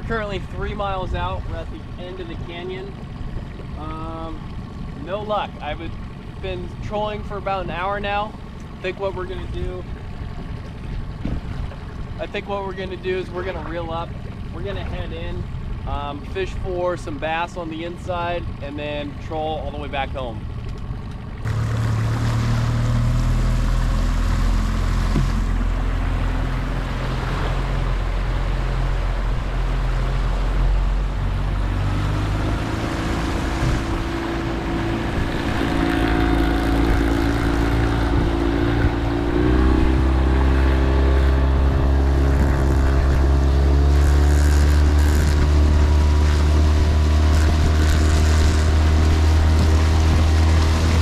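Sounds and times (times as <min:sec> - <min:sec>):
outboard motor running: 0:00.0 - 0:51.0
water noise: 0:00.0 - 0:51.0
wind: 0:00.0 - 0:51.0.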